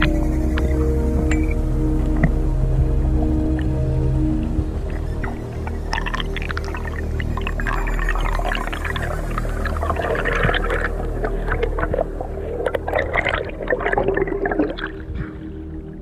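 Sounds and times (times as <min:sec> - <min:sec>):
underwater crackling and bubbling: 0:00.0 - 0:16.0.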